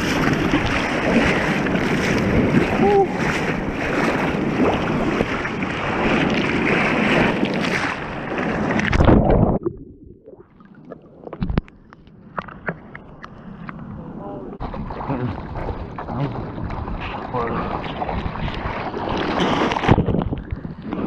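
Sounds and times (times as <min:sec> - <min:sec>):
faint underwater gurgling: 0:00.0 - 0:21.0
surf water rushing and splashing: 0:00.0 - 0:21.0
wave breaking: 0:00.0 - 0:21.0.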